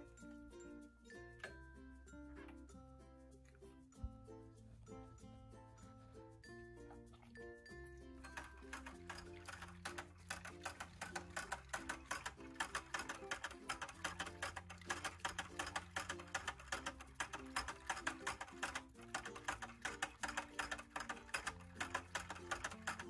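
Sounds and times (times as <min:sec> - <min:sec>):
light bouncy background music: 0:00.0 - 0:23.0.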